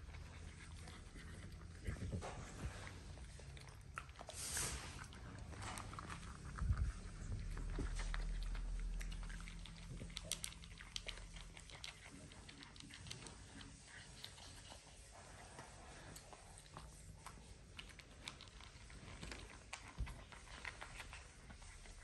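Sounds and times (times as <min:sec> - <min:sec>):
puppy crunching food: 0:00.0 - 0:22.0.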